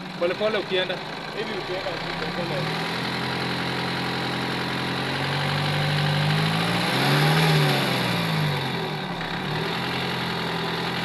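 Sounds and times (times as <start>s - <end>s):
diesel engine idling with misfire: 0.0s - 11.0s.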